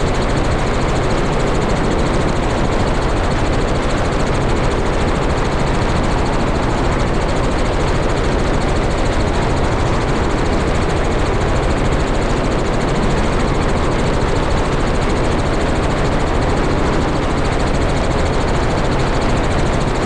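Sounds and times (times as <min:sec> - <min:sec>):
helicopter turbine and rotors: 0:00.0 - 0:20.0.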